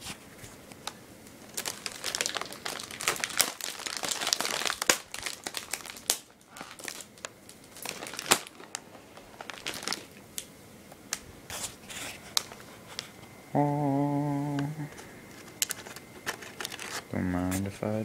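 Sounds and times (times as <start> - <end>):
plastic packaging crinkling: 0.8 - 10.5, 11.1 - 13.2, 14.9 - 17.7.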